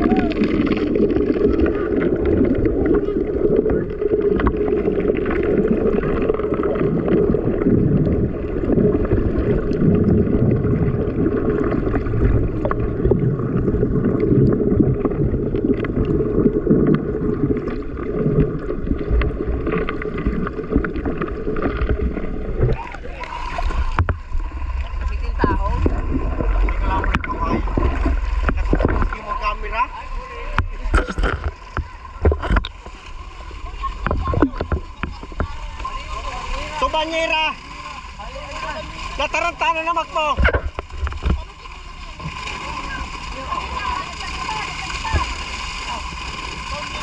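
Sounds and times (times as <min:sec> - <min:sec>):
boat engine rumbling: 0:00.0 - 0:47.0.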